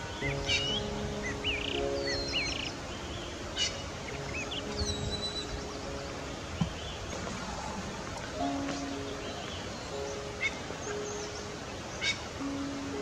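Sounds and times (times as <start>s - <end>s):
outdoor hiss: 0.0s - 13.0s
small birds chirping: 0.0s - 13.0s
soft background music: 0.0s - 13.0s.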